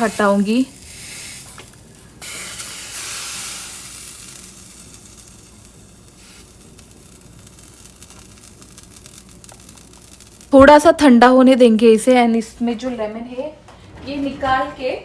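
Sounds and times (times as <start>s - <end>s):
lemon sizzling over burner: 0.0s - 12.2s.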